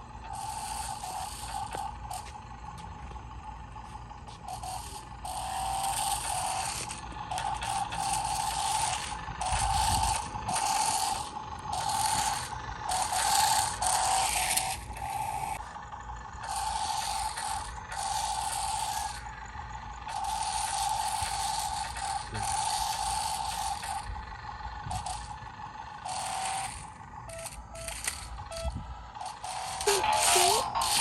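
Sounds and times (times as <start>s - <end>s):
toy car electric motors whining: 0.0s - 31.0s.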